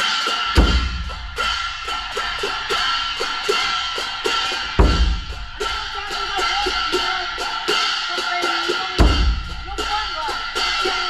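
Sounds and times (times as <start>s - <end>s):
cymbals and gongs beating: 0.0s - 11.0s
large drum beats: 0.0s - 11.0s.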